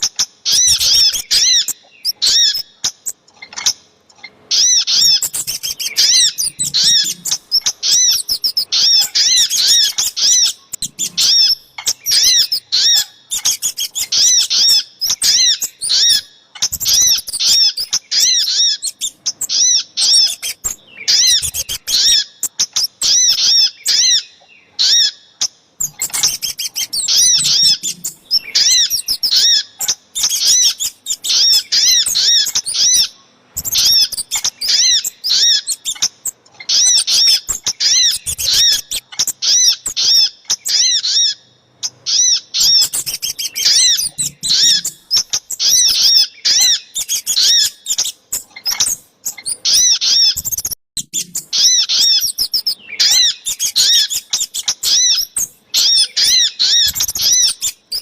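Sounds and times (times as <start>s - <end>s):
sharp high bird chirps: 0.0s - 58.0s.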